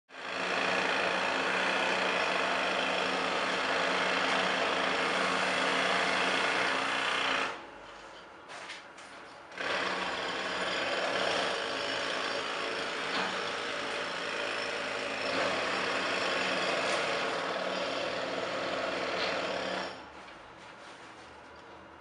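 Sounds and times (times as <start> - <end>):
jackhammer breaking concrete: 0.2 - 7.6, 9.5 - 20.0.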